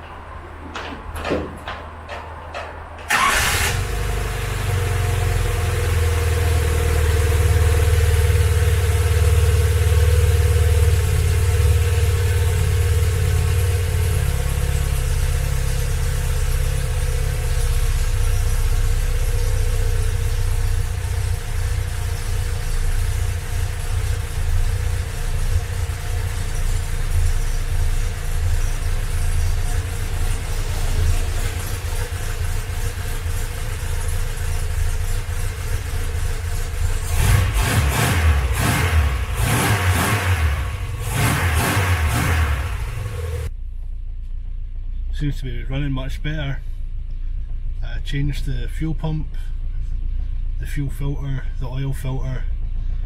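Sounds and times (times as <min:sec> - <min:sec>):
car engine starting and idling: 0:00.0 - 0:53.0.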